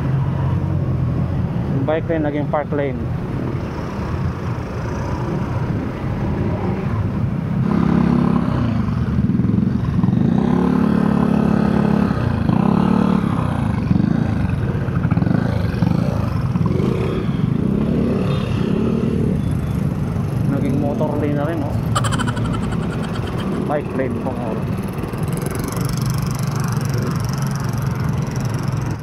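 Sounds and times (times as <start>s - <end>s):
road rumble: 0.0s - 29.0s
vehicle engines passing: 0.0s - 29.0s.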